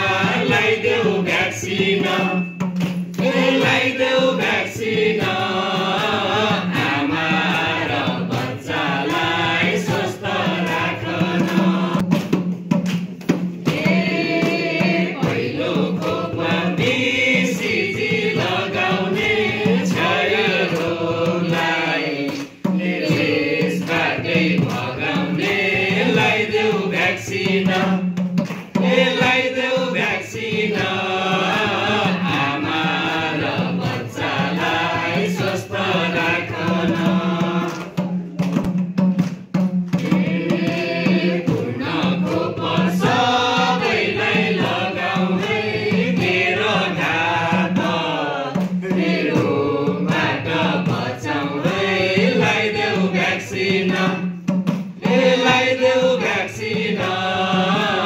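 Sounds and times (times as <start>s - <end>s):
group singing into microphones: 0.0s - 12.5s, 13.3s - 58.0s.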